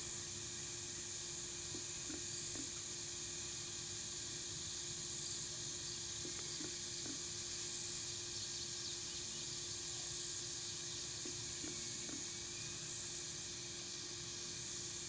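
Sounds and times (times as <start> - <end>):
high insect drone: 0.0 - 15.0
hiss: 0.0 - 15.0.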